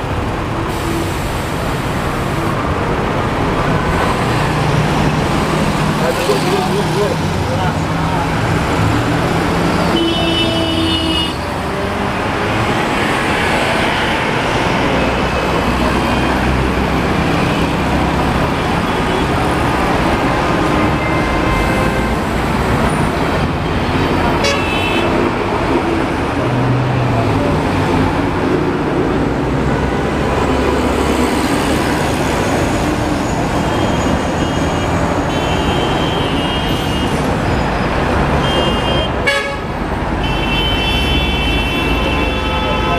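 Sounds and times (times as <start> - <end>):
road traffic passing: 0.0 - 42.9.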